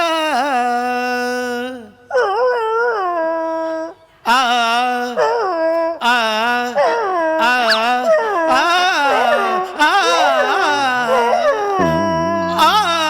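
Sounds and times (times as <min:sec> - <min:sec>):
man imitating dog howls: 0:02.1 - 0:13.0.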